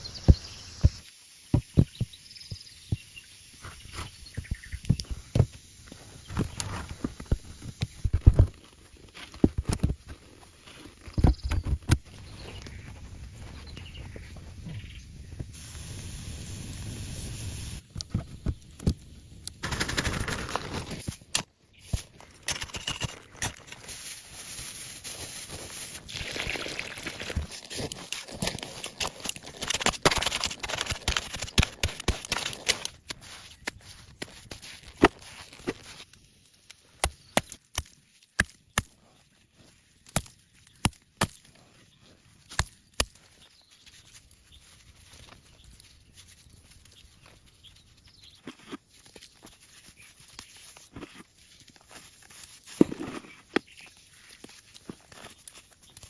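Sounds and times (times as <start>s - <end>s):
rustling and crackling: 0.0s - 56.0s.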